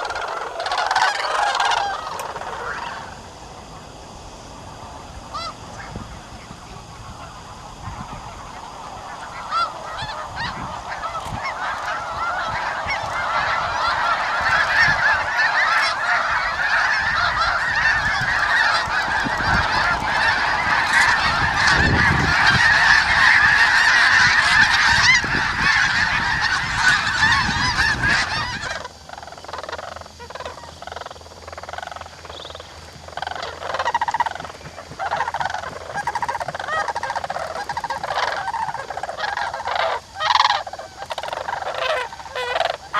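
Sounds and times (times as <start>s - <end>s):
geese honking: 0.0s - 42.9s.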